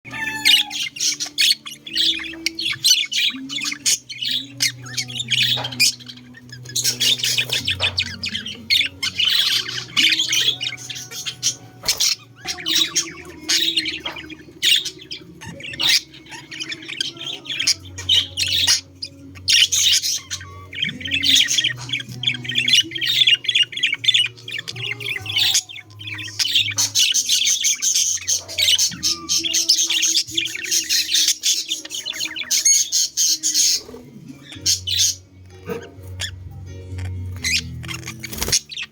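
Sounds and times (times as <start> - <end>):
budgerigars chattering: 0.1 - 38.9.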